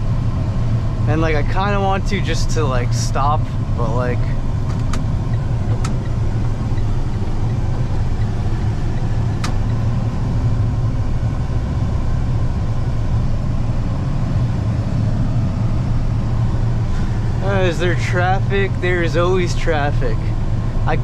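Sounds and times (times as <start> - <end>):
road and engine drone: 0.0 - 21.0.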